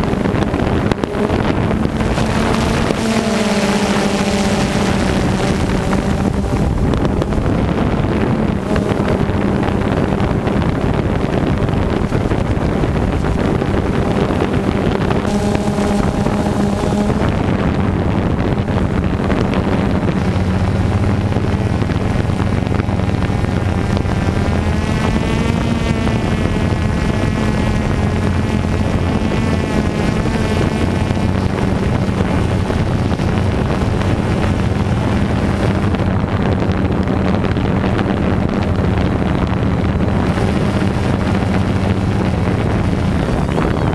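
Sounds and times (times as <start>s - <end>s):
drone propellers droning: 0.0s - 43.9s
wind noise on microphone: 0.0s - 43.9s.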